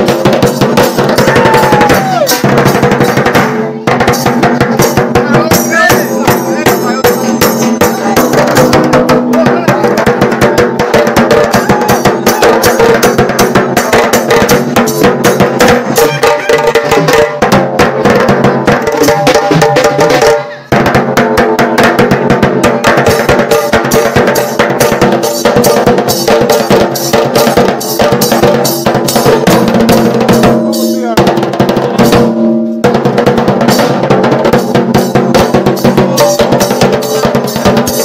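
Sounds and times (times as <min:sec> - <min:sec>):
drum band playing fast rhythm: 0:00.0 - 0:38.0.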